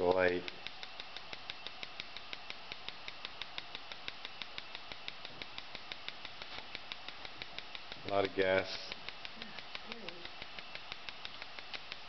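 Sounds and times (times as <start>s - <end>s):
gas hissing: 0.0s - 12.0s
spark igniter clicking: 0.0s - 12.0s.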